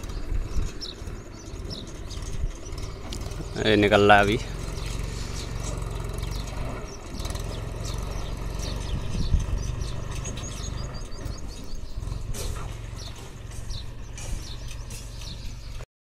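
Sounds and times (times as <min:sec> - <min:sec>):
birds chirping: 0:00.0 - 0:15.8
tractor diesel engine running: 0:00.0 - 0:15.9.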